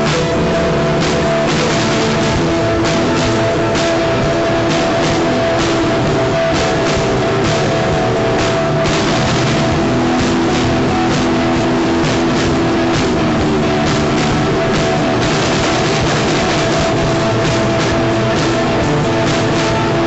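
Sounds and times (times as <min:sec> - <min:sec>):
drum kit steady beat: 0:00.0 - 0:20.0
electric guitar: 0:00.0 - 0:20.0.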